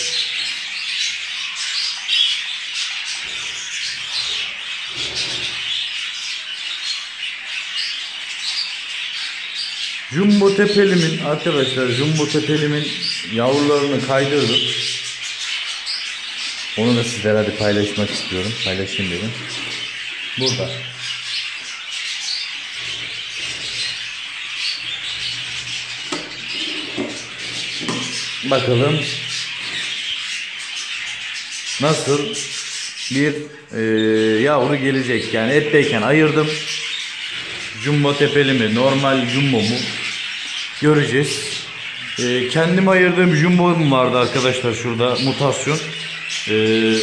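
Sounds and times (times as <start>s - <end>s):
budgerigars chattering and chirping: 0.0s - 47.0s.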